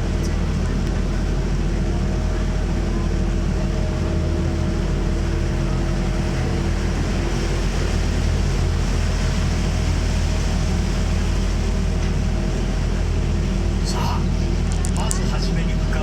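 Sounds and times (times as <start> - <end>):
boat engine humming: 0.0 - 16.0
water washing along hull: 0.0 - 16.0.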